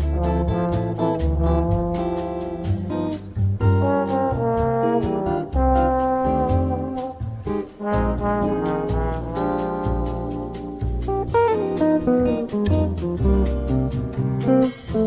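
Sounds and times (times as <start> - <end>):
jazz brass horns: 0.0 - 15.0
ride cymbal beat: 0.0 - 15.0
walking bass line: 0.0 - 15.0.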